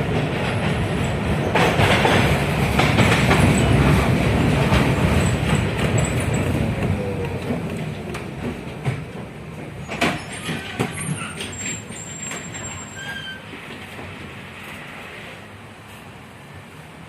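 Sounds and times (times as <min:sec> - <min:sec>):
tram rolling along track: 0:00.0 - 0:17.0.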